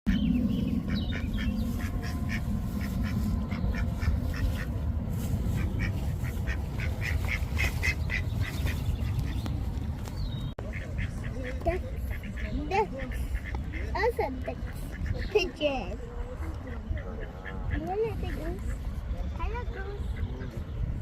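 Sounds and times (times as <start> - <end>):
ducks quacking: 0.1 - 9.5, 10.6 - 21.0
steady low rumble: 0.1 - 21.0.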